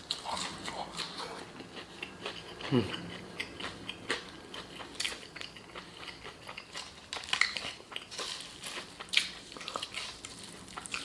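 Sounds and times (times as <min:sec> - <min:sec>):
chewing crispy fried chicken: 0:00.0 - 0:11.0.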